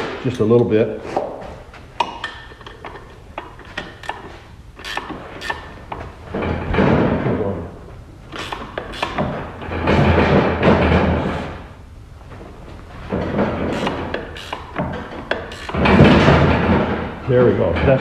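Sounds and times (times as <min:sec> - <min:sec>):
rough handling noise: 0:00.0 - 0:18.0.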